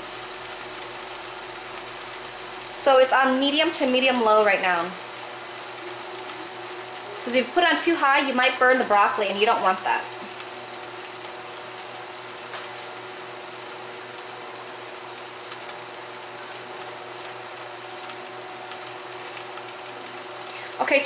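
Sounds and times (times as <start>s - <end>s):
food sizzling in a covered wok: 0.0s - 21.0s
low steady hum: 0.0s - 21.0s.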